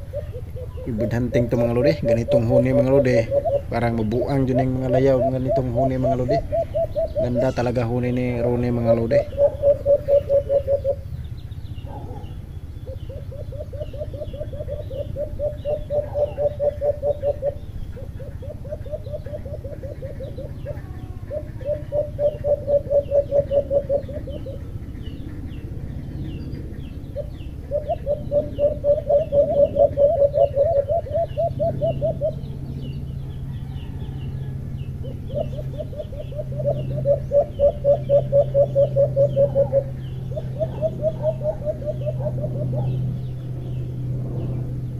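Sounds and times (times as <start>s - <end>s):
doves cooing: 0.0s - 44.9s
low steady hum: 0.0s - 44.9s
small birds chirping: 0.0s - 44.9s.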